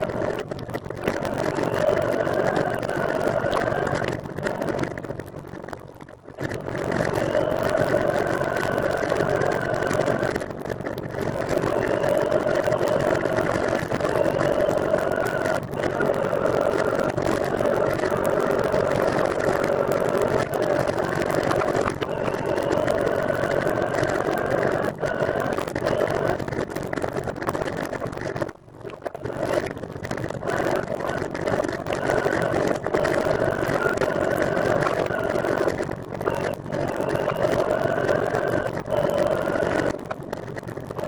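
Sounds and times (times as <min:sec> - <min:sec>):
faint whine: 0:00.0 - 0:41.0.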